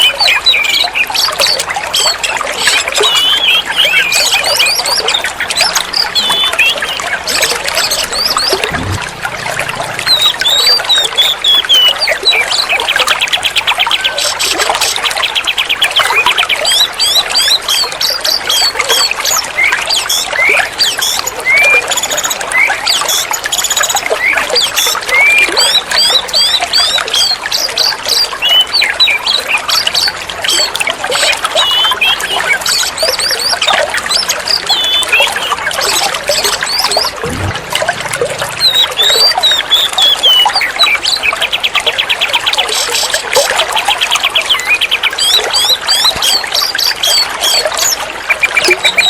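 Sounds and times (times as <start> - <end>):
bird singing: 0.0 - 49.0
running water: 0.0 - 49.0.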